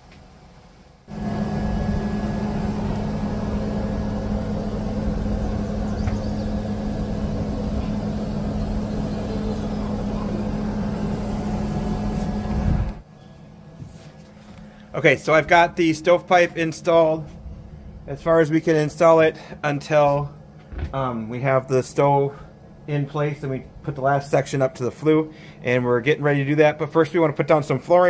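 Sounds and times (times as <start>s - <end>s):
steady mechanical drone: 1.1s - 28.0s.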